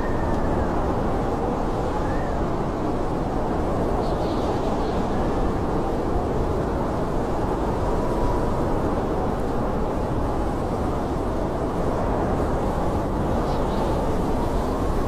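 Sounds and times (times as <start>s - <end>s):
blizzard wind whistling: 0.0s - 15.0s.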